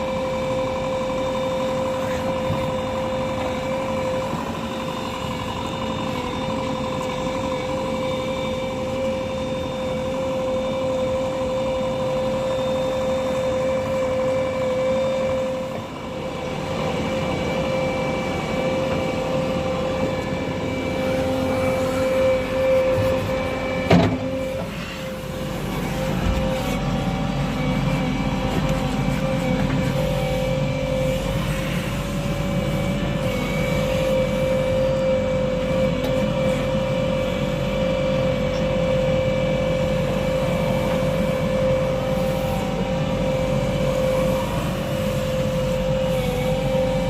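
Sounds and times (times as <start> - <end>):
backhoe diesel engine rumble: 0.0 - 47.0
high mechanical whine: 0.0 - 47.0.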